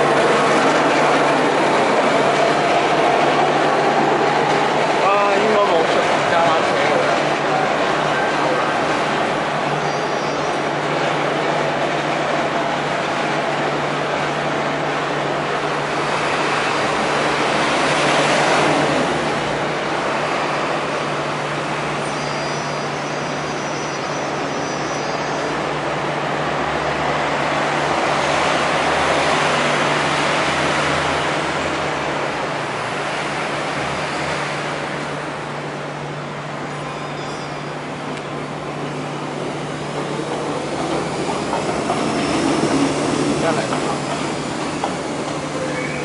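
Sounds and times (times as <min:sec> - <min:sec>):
electric train rumbling: 0:00.0 - 0:46.0.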